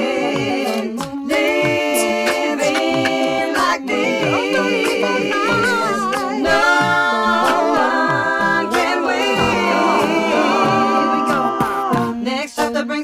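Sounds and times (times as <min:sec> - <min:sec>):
layered a cappella voices: 0:00.0 - 0:13.0
low vocal beat: 0:00.0 - 0:13.0.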